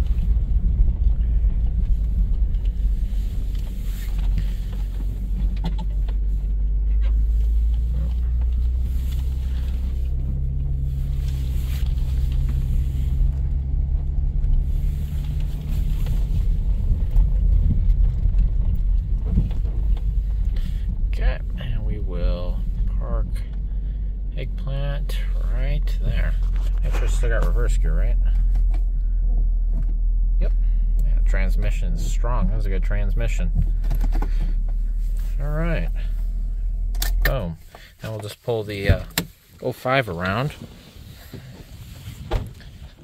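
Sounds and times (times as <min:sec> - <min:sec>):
van engine running under load: 0:00.0 - 0:43.0.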